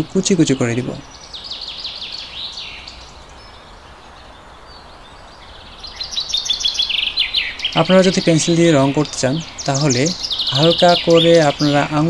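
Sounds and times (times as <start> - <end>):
faint steady hiss: 0.0 - 12.0
small birds chirping: 0.0 - 12.0.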